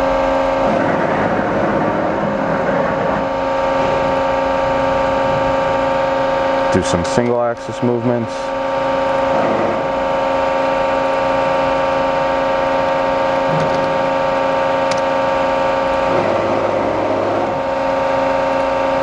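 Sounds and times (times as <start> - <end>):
hydraulic press machine humming: 0.0 - 19.0
rough mechanical whirr: 0.0 - 19.0.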